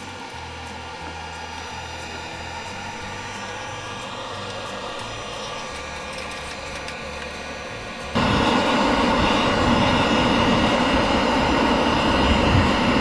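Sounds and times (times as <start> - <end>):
faint high whine: 0.0 - 13.0
loud steady rushing noise: 0.0 - 13.0.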